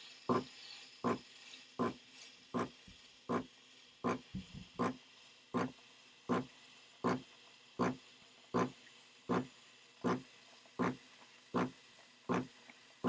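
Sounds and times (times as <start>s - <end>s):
steam wand frothing milk: 0.0s - 13.0s.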